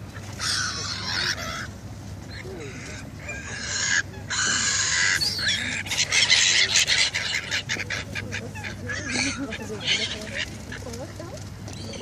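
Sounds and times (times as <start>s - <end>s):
waterbirds squawking: 0.0s - 12.0s.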